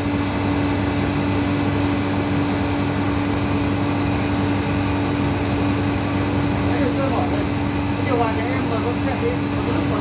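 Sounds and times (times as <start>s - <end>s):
fan noise: 0.0s - 10.0s
refrigeration machinery humming: 0.0s - 10.0s.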